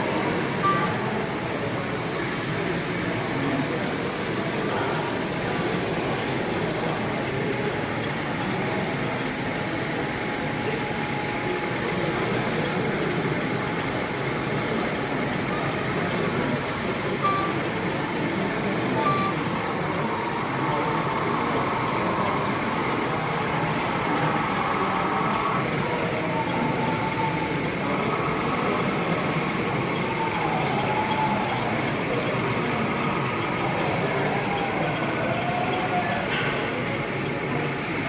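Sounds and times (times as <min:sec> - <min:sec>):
model trains running: 0:00.0 - 0:38.0
murmur of voices: 0:00.0 - 0:38.0.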